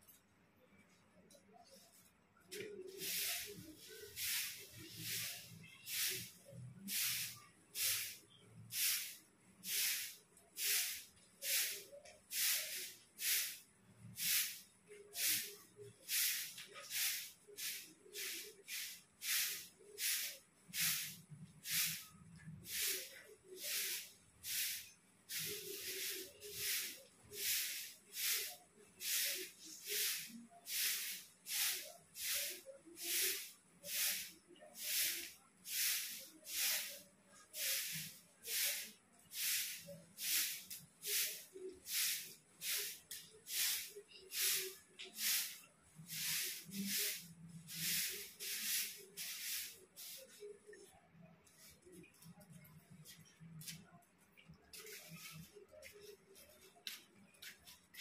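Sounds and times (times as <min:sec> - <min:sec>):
broom sweeping concrete: 0:01.8 - 0:52.3, 0:54.7 - 0:58.0.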